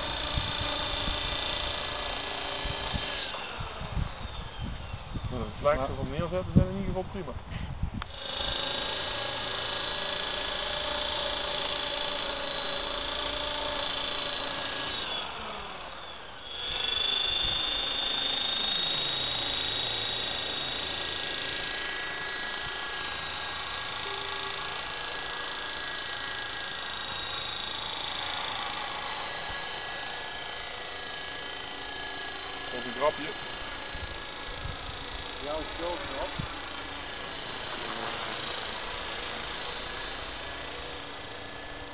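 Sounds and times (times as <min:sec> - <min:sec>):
rc helicopter motor whining: 0:00.0 - 0:41.9.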